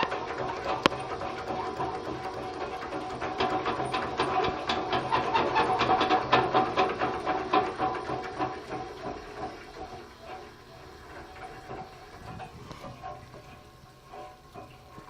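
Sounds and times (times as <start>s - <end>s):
faint uneven ticking: 0.0s - 15.0s
sewing machine clattering: 0.0s - 15.0s.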